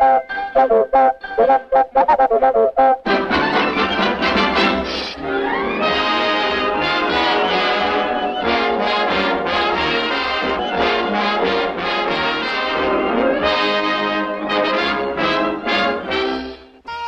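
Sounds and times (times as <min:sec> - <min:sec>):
brassy orchestral cartoon music: 0:00.0 - 0:17.0.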